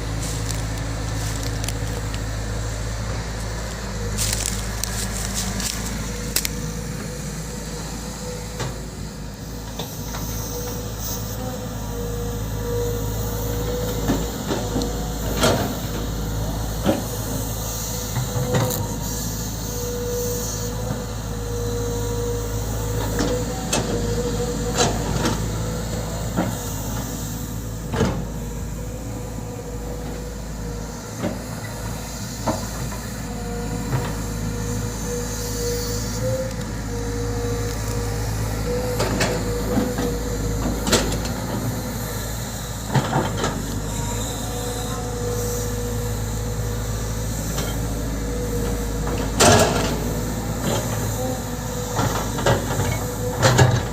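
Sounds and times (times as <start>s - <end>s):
excavator engine drone with whine: 0.0s - 53.9s.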